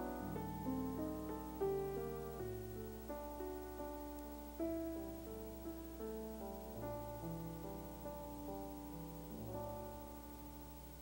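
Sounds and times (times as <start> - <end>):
slow jazz piano: 0.0 - 11.0.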